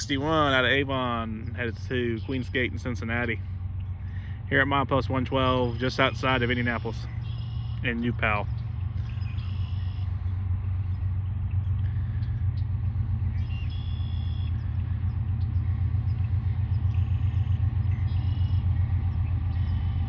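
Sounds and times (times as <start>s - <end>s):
diesel locomotive engines rumbling: 0.0s - 20.0s.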